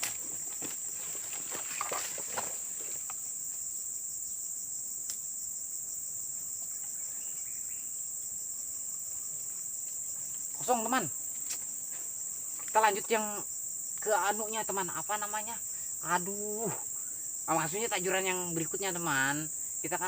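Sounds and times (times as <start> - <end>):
insect chorus droning: 0.0 - 20.0.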